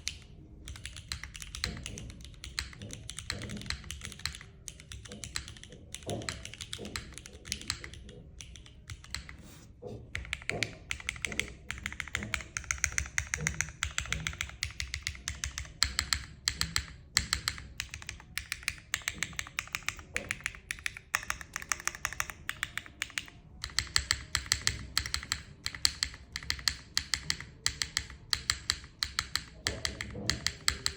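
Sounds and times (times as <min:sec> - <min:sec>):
mechanical keyboard typing: 0:00.0 - 0:09.4, 0:10.1 - 0:30.9.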